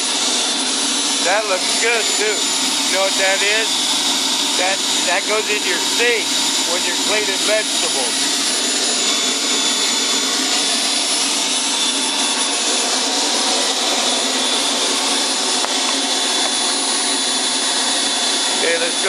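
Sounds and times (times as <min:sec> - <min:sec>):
jet turbine idling: 0:00.0 - 0:19.0.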